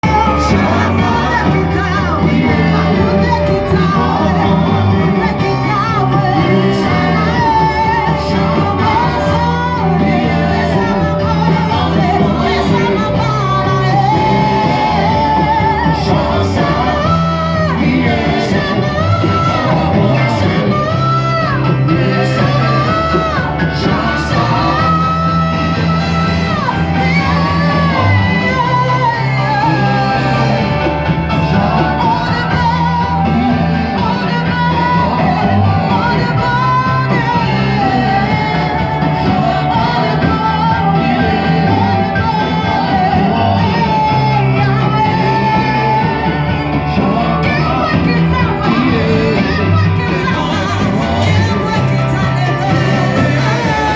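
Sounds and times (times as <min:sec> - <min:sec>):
bass line of held notes: 0:00.0 - 0:53.9
people singing over a band: 0:00.0 - 0:53.9.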